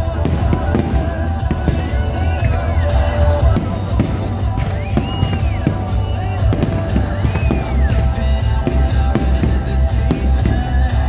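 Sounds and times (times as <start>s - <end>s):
fireworks bangs and pops: 0.0s - 11.0s
loud music with bass beat: 0.0s - 11.0s.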